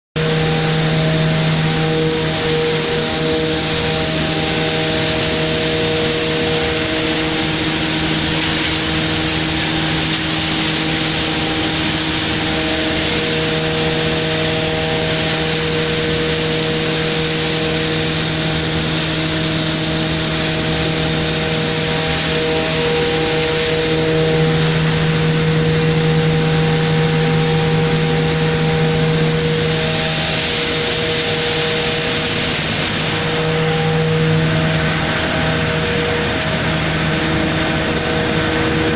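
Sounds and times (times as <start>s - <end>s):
machine droning with hiss: 0.2s - 38.9s.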